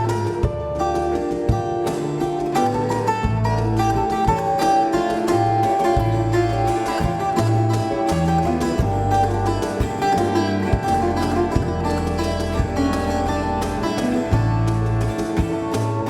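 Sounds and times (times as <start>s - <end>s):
held bass notes: 0.0s - 16.0s
plucked acoustic guitar: 0.0s - 16.0s.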